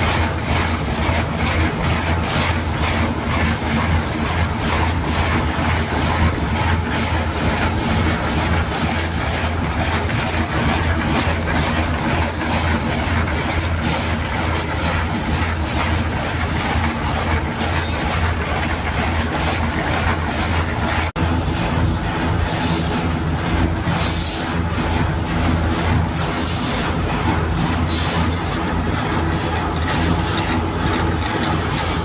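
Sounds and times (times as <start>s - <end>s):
machine humming and clattering: 0.0s - 32.0s.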